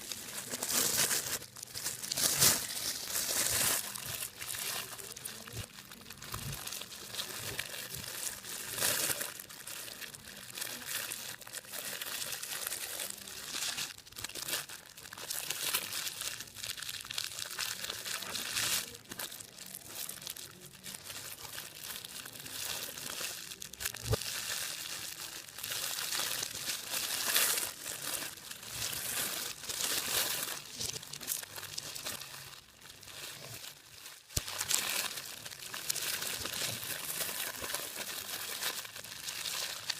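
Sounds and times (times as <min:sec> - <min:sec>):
hands crinkling material: 0:00.0 - 0:39.9.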